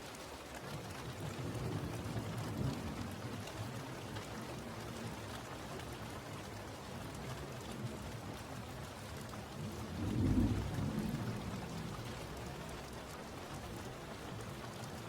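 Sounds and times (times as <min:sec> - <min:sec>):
rain patter: 0:00.0 - 0:15.0.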